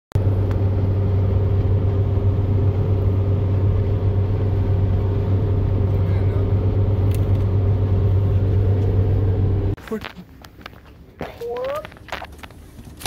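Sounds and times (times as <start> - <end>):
car road rumble and engine hum: 0.2 - 13.0.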